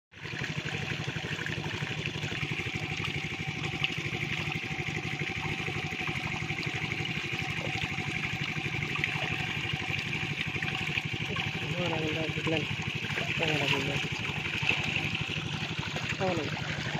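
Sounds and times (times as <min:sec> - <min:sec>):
water gushing and splashing: 0:00.1 - 0:16.9
water pump engine running: 0:00.1 - 0:16.9.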